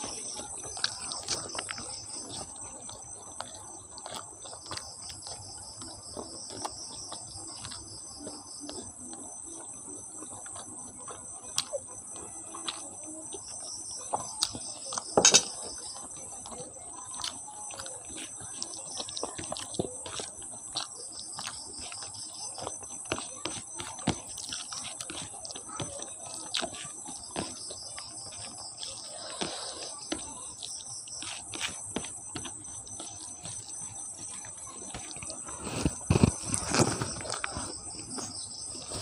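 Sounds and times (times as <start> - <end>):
crickets chirping: 0.0 - 39.0
fingers squishing rice: 0.0 - 39.0
wet chewing and smacking: 0.0 - 39.0.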